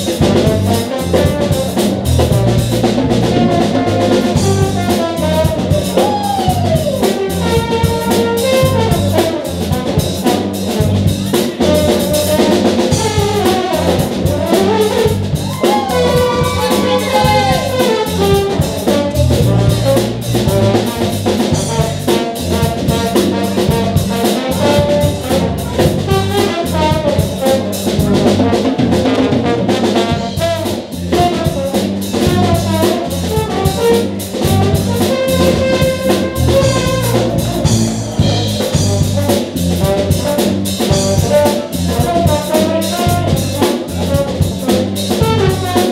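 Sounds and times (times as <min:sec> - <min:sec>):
trombone: 0:00.0 - 0:06.1, 0:06.8 - 0:45.9
alto saxophone: 0:00.0 - 0:45.9
bass guitar: 0:00.0 - 0:45.9
drum kit: 0:00.0 - 0:45.9.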